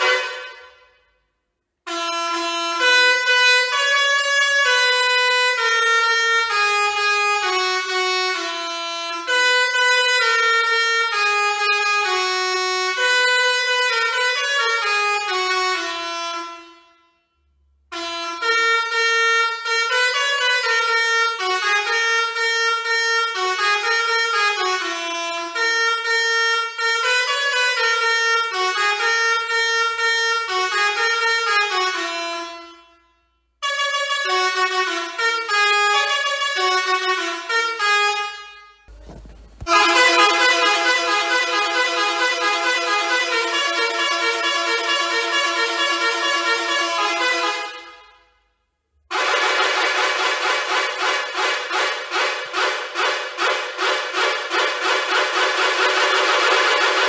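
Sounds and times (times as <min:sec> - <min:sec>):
musical air horn melody: 0:00.0 - 0:57.0.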